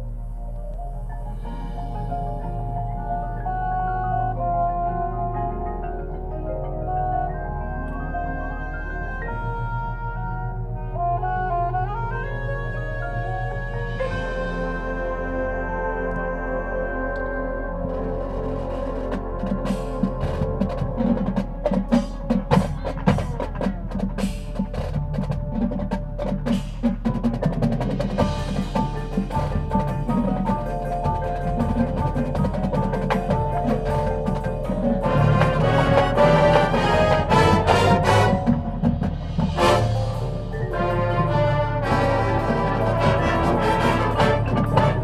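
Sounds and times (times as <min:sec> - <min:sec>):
percussion and mallet instruments: 0:00.0 - 0:45.0
marching band playing: 0:01.3 - 0:45.0.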